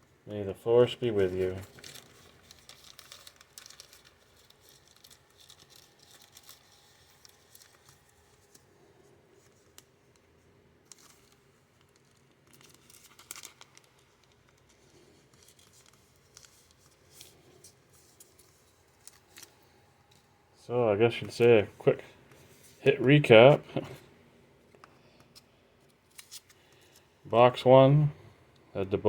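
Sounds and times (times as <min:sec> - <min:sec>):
trading cards and wrappers rustling: 0:00.5 - 0:27.5.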